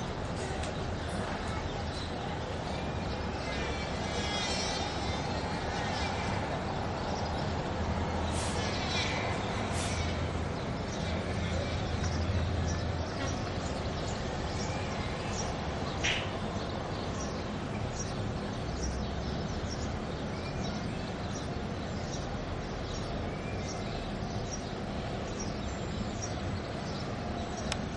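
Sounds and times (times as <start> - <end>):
steady background hum: 0.0 - 27.9
small birds chirping: 0.2 - 27.9.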